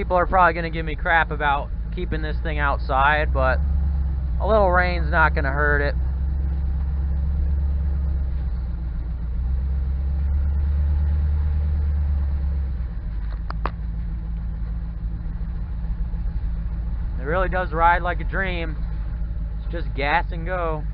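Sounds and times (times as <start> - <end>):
truck engine droning: 0.0 - 20.9.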